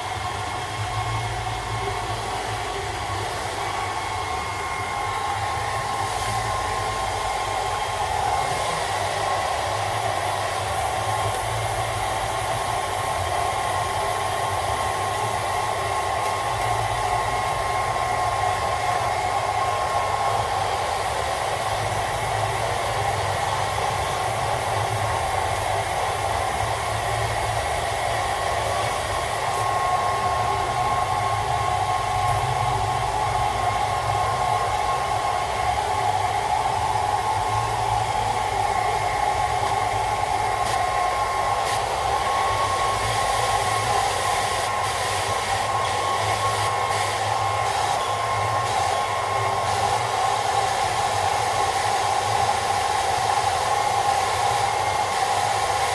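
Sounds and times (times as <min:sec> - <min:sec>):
hairdryer blowing: 0:00.0 - 0:55.9.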